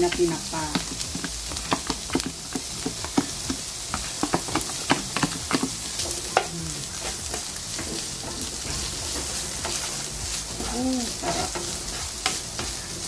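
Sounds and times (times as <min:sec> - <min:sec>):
hot oil sizzling: 0:00.0 - 0:13.0
spatula scraping frying pan: 0:00.1 - 0:13.0.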